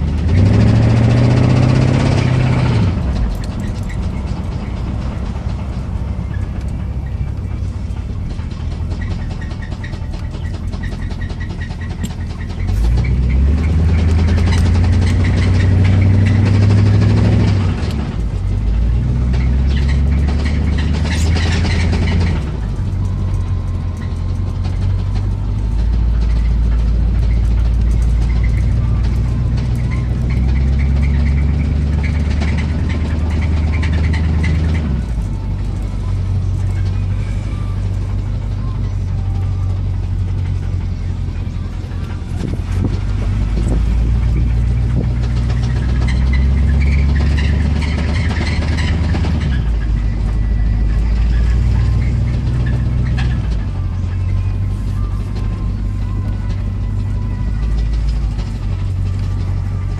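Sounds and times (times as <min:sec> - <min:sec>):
engine knock: 0:00.0 - 0:59.9
pickup engine accelerating: 0:00.0 - 0:59.9.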